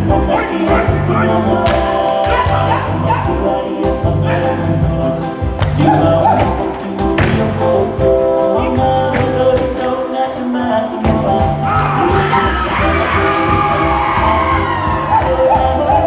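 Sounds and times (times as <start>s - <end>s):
music with heavy bass: 0.0s - 10.0s, 11.1s - 16.0s
person singing: 0.0s - 16.0s.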